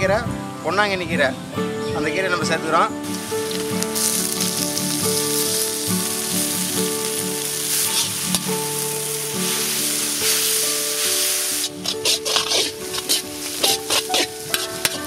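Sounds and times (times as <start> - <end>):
background music of held notes: 0.0 - 15.0
greens sizzling in hot oil: 2.5 - 15.0.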